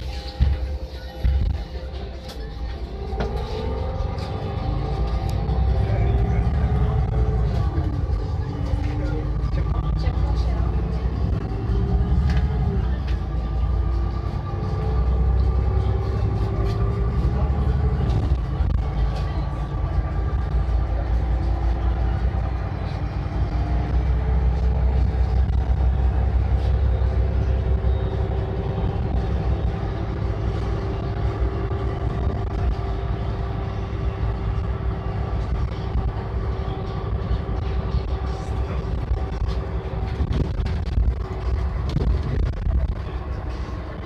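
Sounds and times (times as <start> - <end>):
vehicle engine and road rumble: 0.0 - 44.0.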